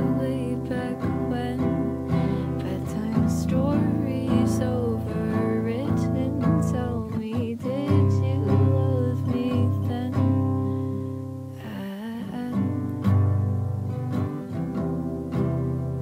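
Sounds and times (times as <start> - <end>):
person singing slow melody: 0.0 - 14.4
acoustic guitar chords: 0.0 - 16.0.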